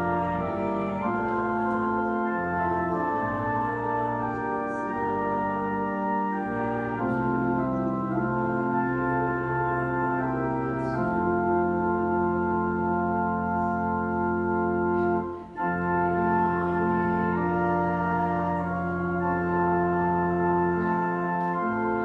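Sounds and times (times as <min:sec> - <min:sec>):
church organ playing a hymn: 0:00.0 - 0:22.0.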